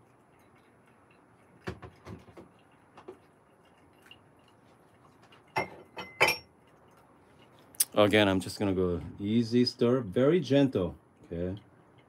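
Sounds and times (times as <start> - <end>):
water trickling from kettle: 0.0 - 12.0.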